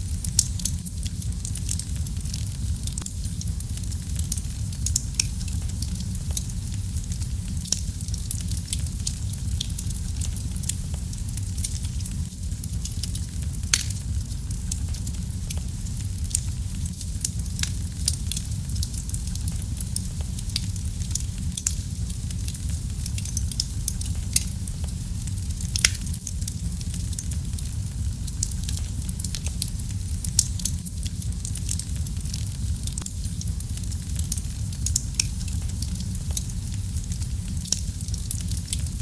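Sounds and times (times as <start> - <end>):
low rumble of flames: 0.0 - 39.0
wood fire crackling and popping: 0.0 - 39.0.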